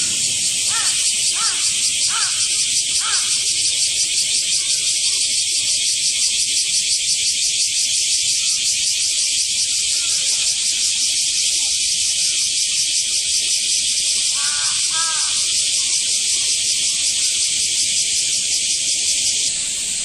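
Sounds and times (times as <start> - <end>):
cicadas chorus: 0.0 - 20.0.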